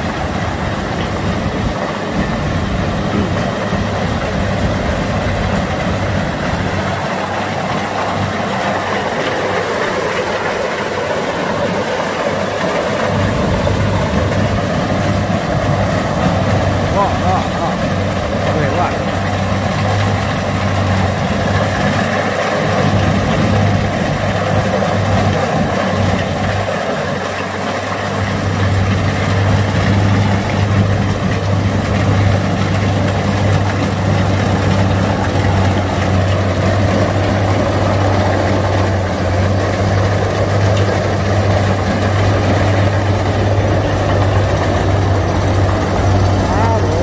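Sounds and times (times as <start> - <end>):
diesel engine running: 0.0 - 47.0
threshing machinery clatter: 0.0 - 47.0.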